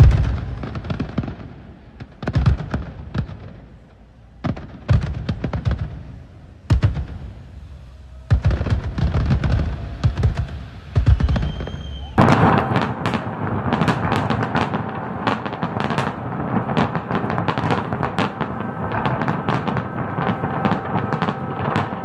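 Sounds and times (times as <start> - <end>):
fireworks barrage of bangs and crackle: 0.0 - 22.0
fireworks booming: 0.0 - 22.0.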